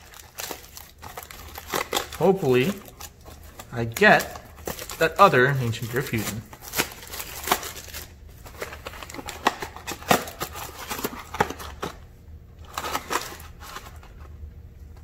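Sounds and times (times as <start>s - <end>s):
foil pack crinkling: 0.0s - 15.0s.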